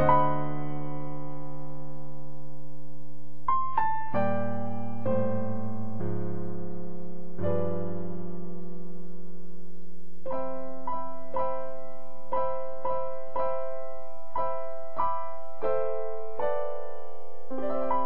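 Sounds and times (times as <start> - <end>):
electric piano music: 0.0 - 18.0.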